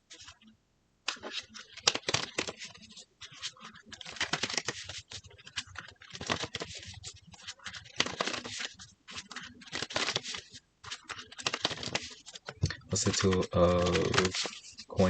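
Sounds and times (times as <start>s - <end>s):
cards being shuffled: 1.1s - 15.0s.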